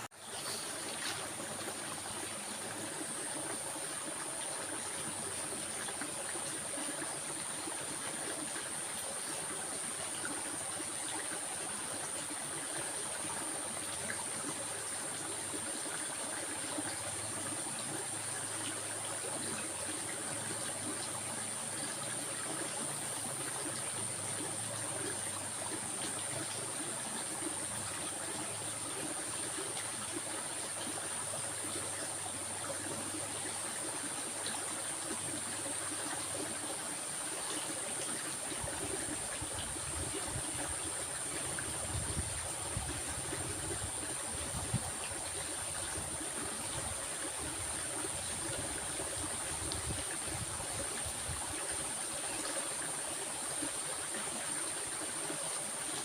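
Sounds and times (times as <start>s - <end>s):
water flowing and trickling: 0.0s - 56.0s.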